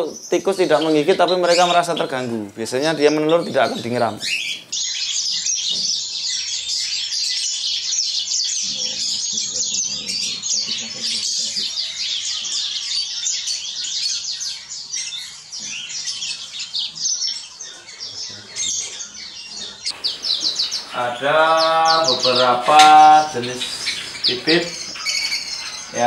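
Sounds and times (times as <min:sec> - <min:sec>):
finches chirping: 0:00.0 - 0:26.0.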